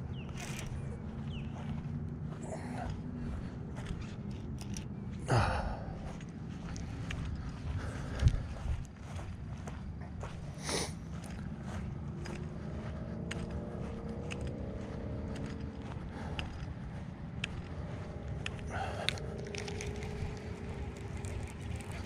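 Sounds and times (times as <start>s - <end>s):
faint wavering hum: 0.0s - 22.0s
footsteps crunching dry grass: 0.0s - 22.0s
wind rumbling on microphone: 0.0s - 22.0s.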